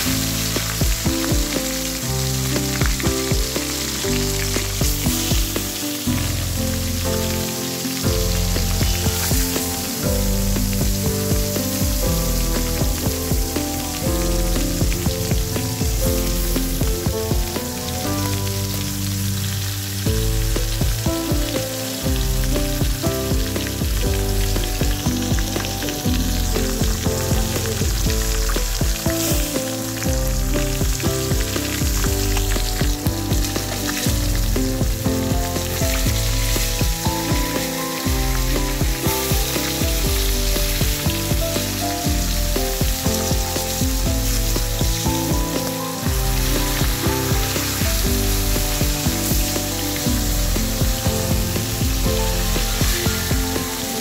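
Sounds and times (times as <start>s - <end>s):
background music with held notes: 0.0s - 54.0s
fish sizzling in hot oil: 0.0s - 54.0s.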